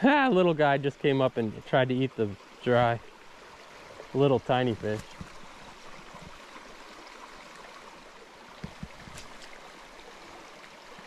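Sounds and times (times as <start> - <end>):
brook babbling over stones: 0.0 - 11.0.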